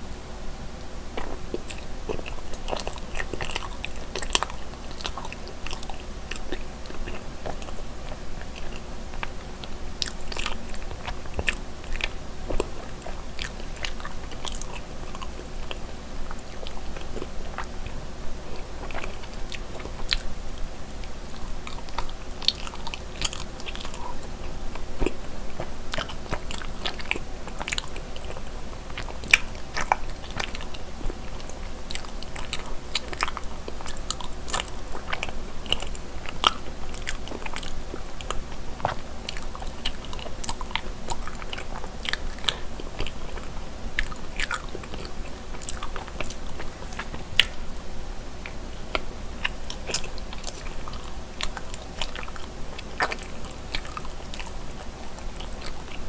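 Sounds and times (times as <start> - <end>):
chewing soft rice cakes: 0.9 - 56.0.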